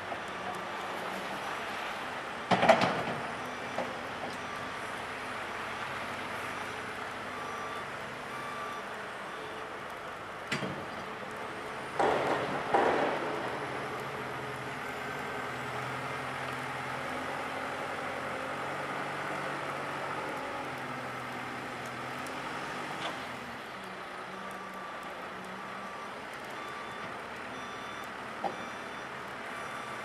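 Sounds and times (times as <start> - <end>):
telehandler diesel engine running: 3.5 - 10.4, 11.1 - 30.0.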